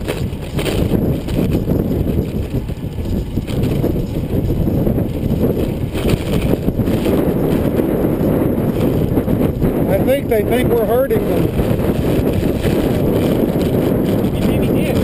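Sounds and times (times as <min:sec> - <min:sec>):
bicycle tyre noise: 0:00.0 - 0:15.0
wind buffeting microphone: 0:00.0 - 0:15.0.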